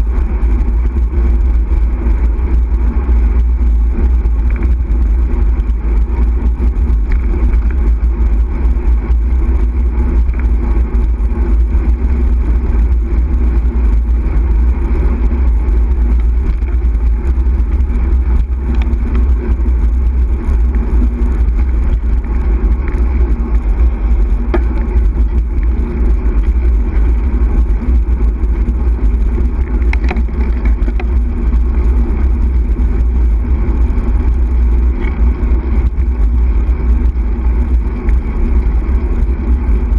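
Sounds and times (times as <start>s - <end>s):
tyre road noise on tarmac: 0.0s - 39.9s
wind buffeting microphone: 0.0s - 39.9s.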